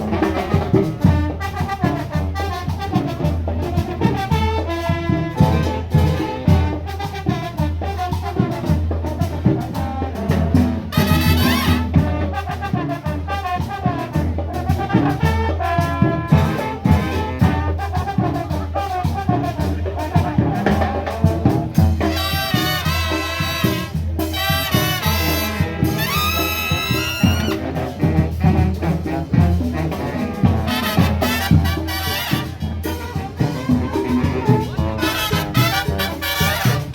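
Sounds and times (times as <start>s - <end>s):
drums keeping a steady beat: 0.0s - 36.9s
parade band playing: 0.0s - 36.9s
trumpets and trombones: 0.0s - 36.9s.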